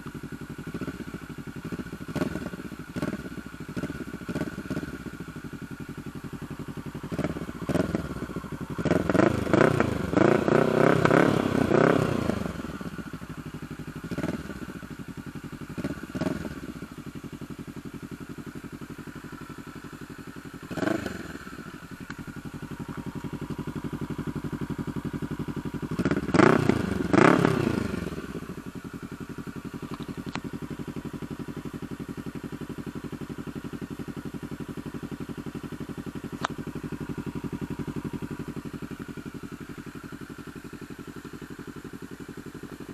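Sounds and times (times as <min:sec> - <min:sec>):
motorcycle engine idling: 0:00.0 - 0:42.9
motorcycle throttle blips and revs: 0:00.0 - 0:42.9.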